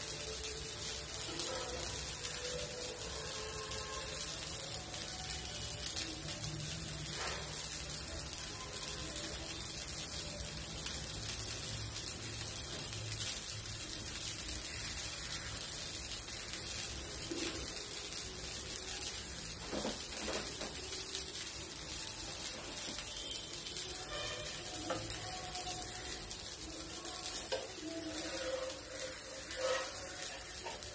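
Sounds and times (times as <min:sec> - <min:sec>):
batter sizzling on a hot pan: 0:00.0 - 0:30.9.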